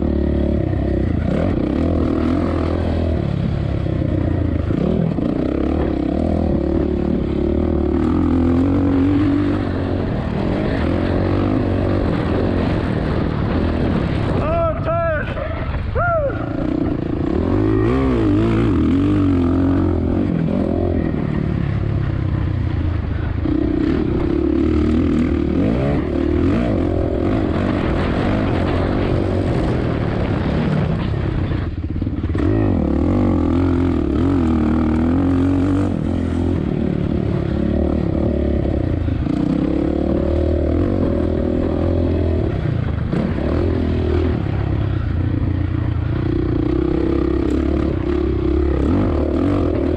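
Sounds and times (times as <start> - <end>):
motocross bike engine revving: 0.0 - 14.4, 15.7 - 49.9.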